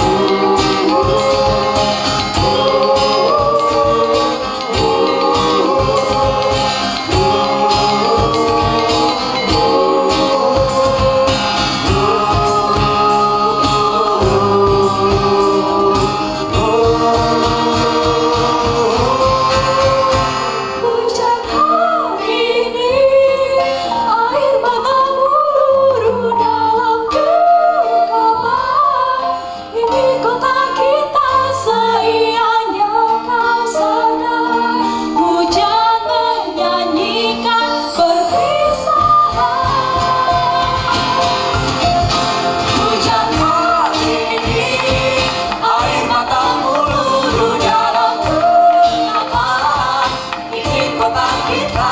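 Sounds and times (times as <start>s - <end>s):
group of voices singing: 0.0s - 51.9s
rhythmic accompaniment: 0.0s - 51.9s.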